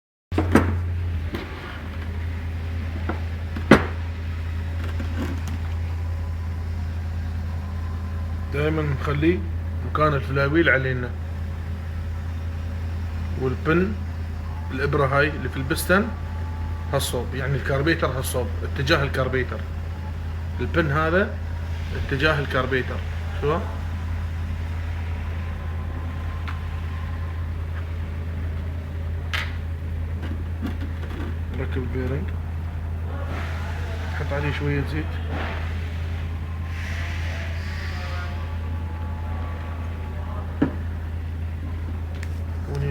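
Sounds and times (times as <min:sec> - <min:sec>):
steady low hum: 0:00.3 - 0:42.9.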